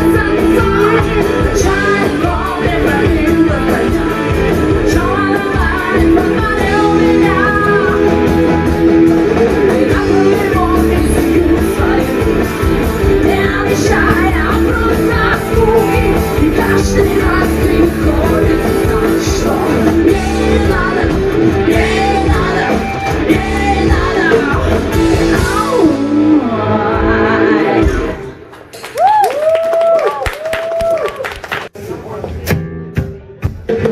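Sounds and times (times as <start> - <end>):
person singing: 0.0 - 28.3
rock band playing live: 0.0 - 28.5, 31.8 - 33.9.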